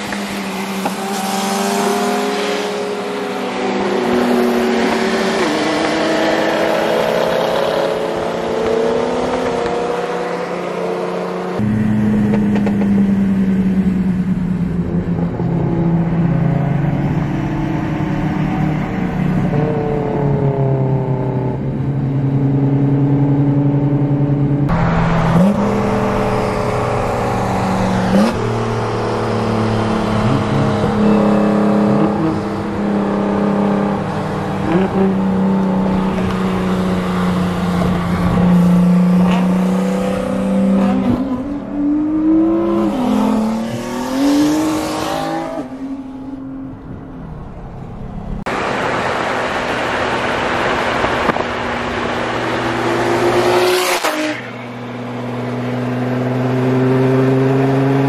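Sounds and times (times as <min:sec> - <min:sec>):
car engines at full throttle: 0:00.0 - 0:58.0.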